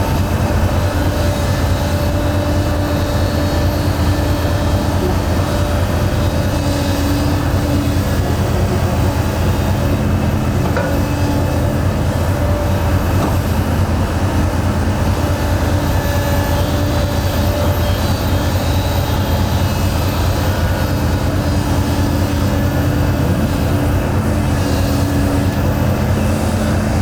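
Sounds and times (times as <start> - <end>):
construction machine diesel engine: 0.0 - 27.0.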